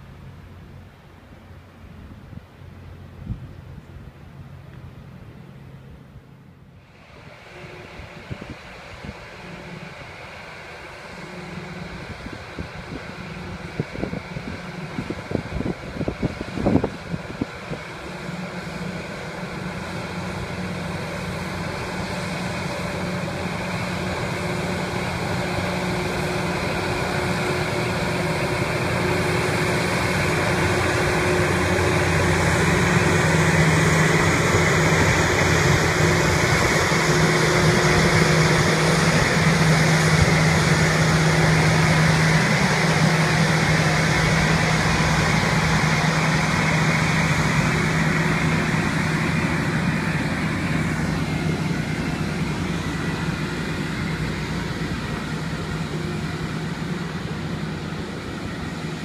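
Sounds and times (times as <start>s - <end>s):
diesel engines humming: 0.0s - 59.0s.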